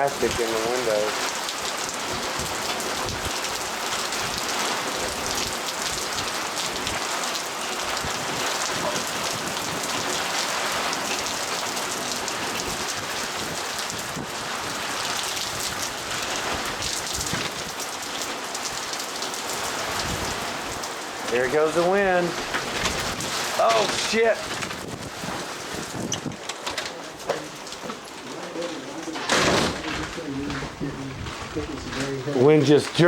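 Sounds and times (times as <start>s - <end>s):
heavy rain and hail: 0.0s - 33.0s.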